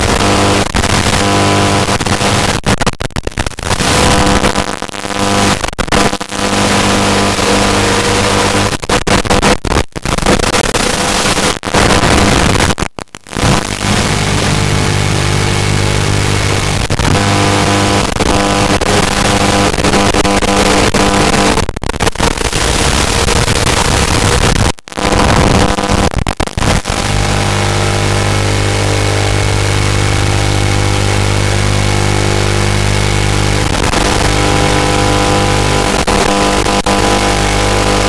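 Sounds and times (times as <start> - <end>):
steady electrical buzz with hiss: 0.0 - 2.7, 3.6 - 9.4, 10.2 - 21.6, 22.2 - 38.0.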